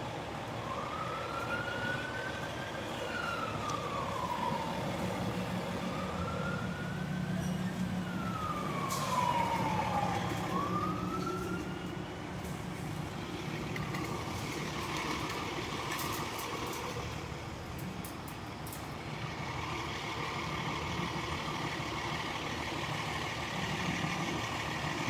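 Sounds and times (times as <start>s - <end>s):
fire engine siren wailing: 0.0s - 25.0s
heavy truck engine rumble: 0.0s - 25.0s.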